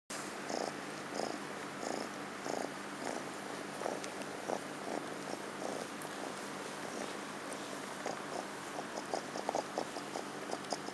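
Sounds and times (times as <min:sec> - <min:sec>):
kitten purring: 0:00.3 - 0:10.9.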